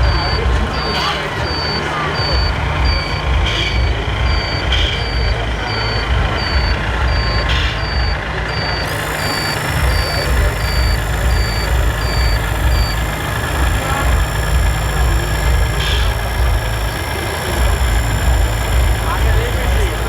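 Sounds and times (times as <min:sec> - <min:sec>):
high steady whine: 0:00.0 - 0:20.0
low engine rumble: 0:00.0 - 0:20.0
reversing beeper: 0:00.0 - 0:20.0.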